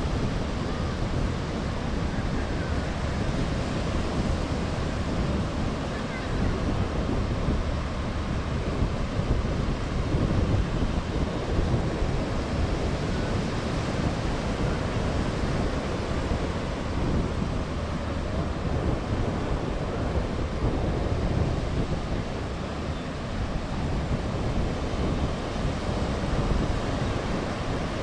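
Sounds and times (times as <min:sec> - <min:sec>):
ocean surf: 0:00.0 - 0:28.0
wind on microphone: 0:00.0 - 0:28.0.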